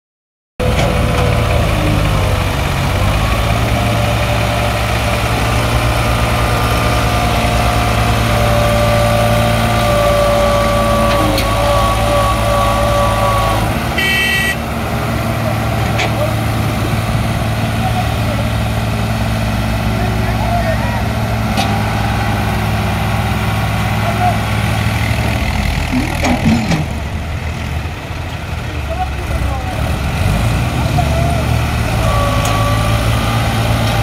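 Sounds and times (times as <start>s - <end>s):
diesel tractor engines running: 0.6s - 34.0s.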